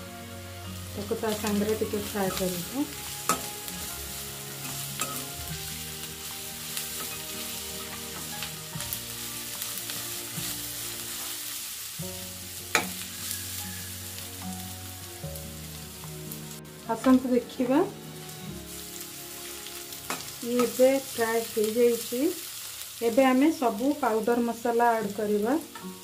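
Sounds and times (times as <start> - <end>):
onions and spices sizzling in oil: 0.0 - 26.0.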